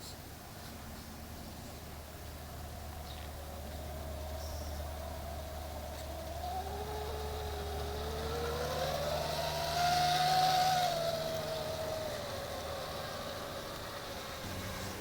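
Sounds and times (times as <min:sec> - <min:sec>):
steady low hum: 0:00.0 - 0:15.0
electric motor whining: 0:02.4 - 0:15.0.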